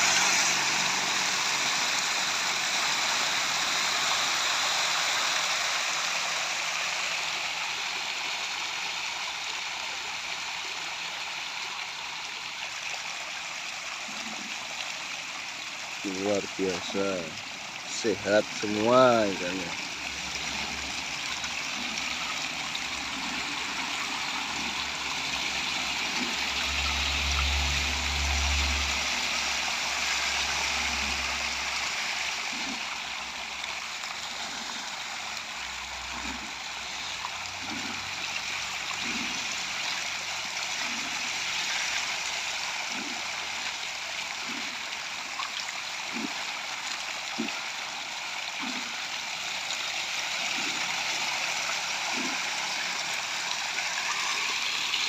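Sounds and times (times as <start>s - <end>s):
water flowing into pond: 0.0s - 55.0s.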